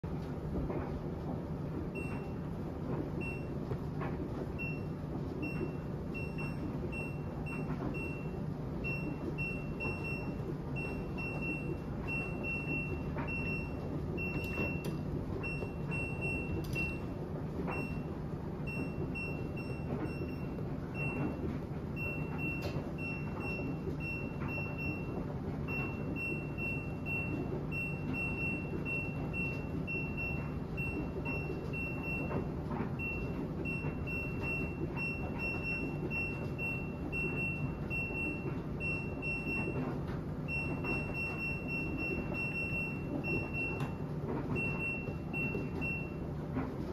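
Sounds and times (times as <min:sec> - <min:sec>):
steady low rumble: 0:00.1 - 0:46.9
washing machine control panel beeping: 0:00.1 - 0:46.9.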